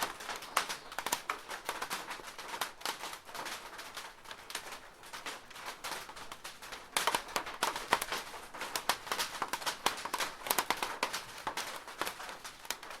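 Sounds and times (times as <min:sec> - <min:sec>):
rain tapping on plastic roof: 0:00.0 - 0:13.0.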